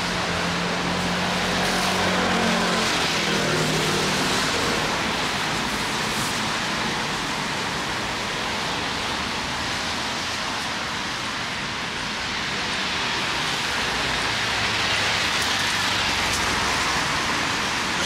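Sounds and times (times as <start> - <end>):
traffic on wet road: 0.0 - 18.0.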